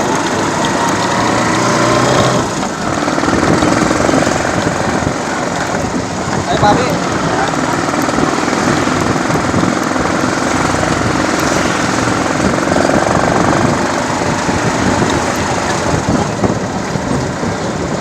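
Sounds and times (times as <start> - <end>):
loud rushing noise: 0.0 - 18.0
motorcycle engine running: 0.0 - 18.0.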